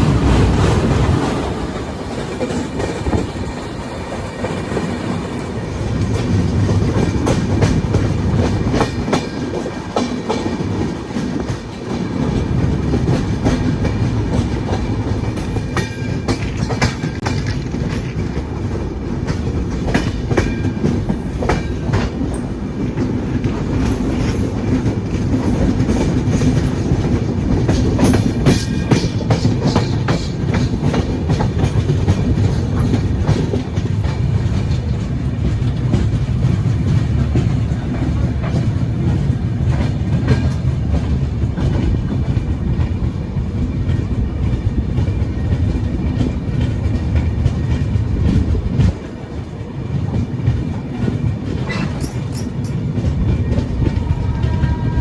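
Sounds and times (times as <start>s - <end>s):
train rumbling: 0.0s - 55.0s
wheels clacking over rail joints: 0.0s - 55.0s.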